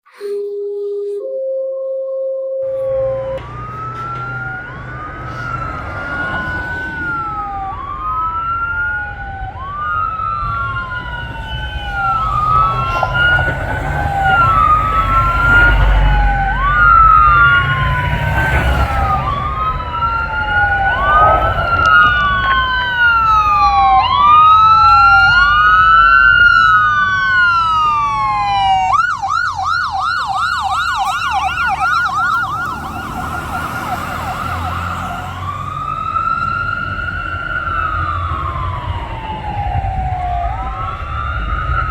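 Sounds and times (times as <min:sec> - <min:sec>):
fire engine siren wailing: 0:00.2 - 0:41.9
siren rapid yelp: 0:01.2 - 0:41.9
truck engine and road rumble: 0:02.6 - 0:41.9.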